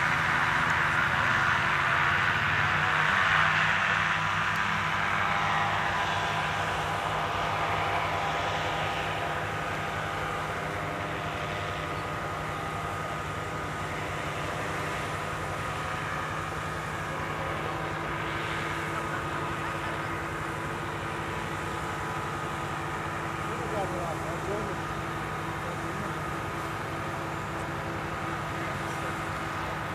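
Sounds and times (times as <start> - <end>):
engines droning: 0.0 - 29.9.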